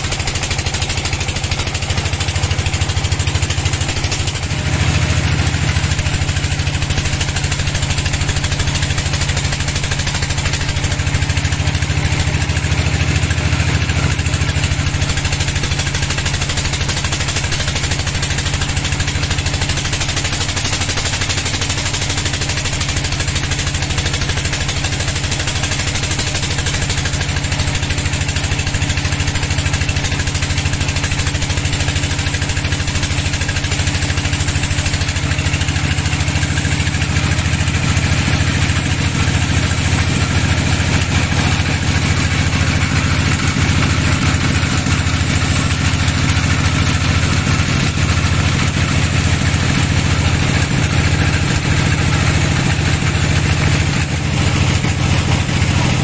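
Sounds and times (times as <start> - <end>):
heavy engine idling: 0.0 - 56.0.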